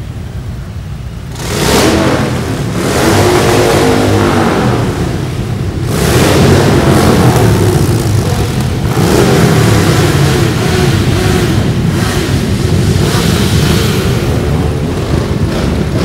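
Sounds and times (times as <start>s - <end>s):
motorcycles riding past: 1.3s - 16.0s.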